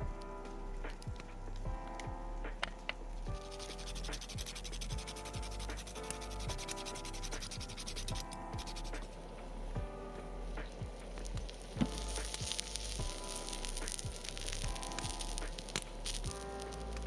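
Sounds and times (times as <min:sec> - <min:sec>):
background music with beat: 0:00.0 - 0:17.0
scratchy crackling: 0:02.6 - 0:09.4, 0:10.2 - 0:17.0.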